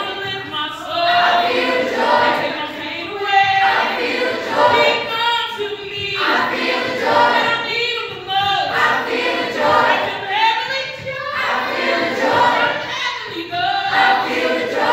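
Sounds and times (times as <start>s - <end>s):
choir singing gospel: 0.0s - 14.9s.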